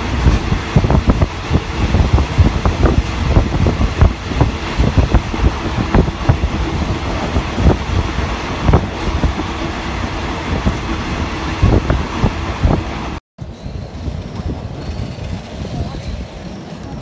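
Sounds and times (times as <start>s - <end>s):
train rumbling on rails: 0.0s - 17.0s
wheels knocking and clanking: 0.0s - 17.0s.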